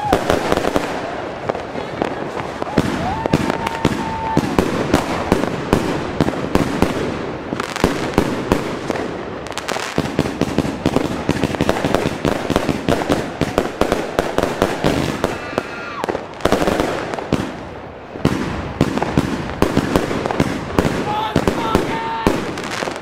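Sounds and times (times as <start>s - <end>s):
firework bangs: 0.0s - 23.0s
firework stars crackling: 0.0s - 23.0s.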